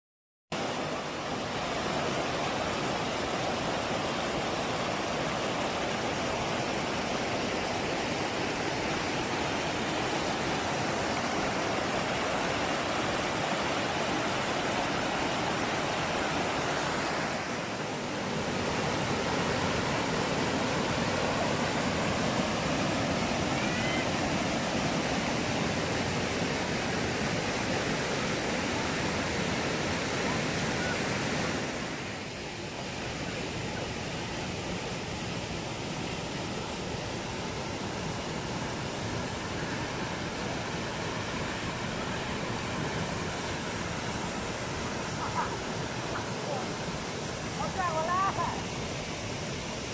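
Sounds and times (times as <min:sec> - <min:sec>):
water rushing over stones: 0:00.6 - 0:49.9.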